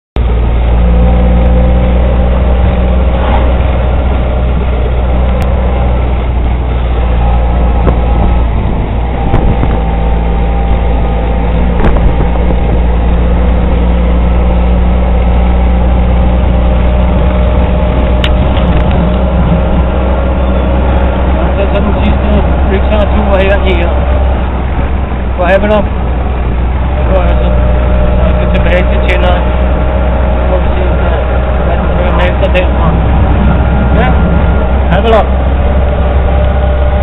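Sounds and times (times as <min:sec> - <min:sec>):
auto-rickshaw engine running: 0:00.2 - 0:37.0.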